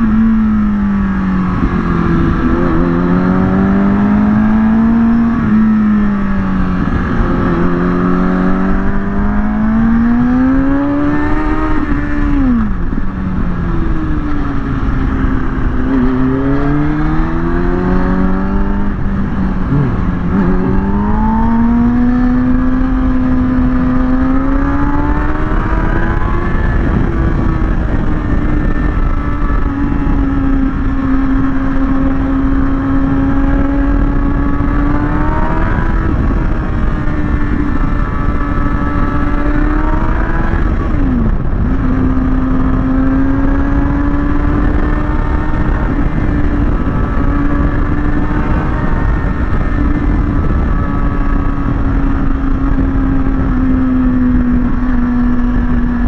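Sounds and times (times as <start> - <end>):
motorcycle engine changing pitch: 0.0 - 56.0
wind rush on microphone: 0.0 - 56.0.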